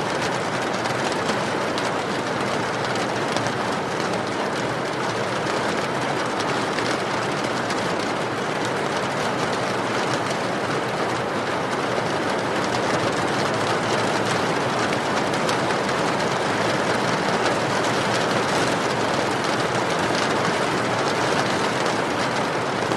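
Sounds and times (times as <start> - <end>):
steady rain: 0.0 - 22.9.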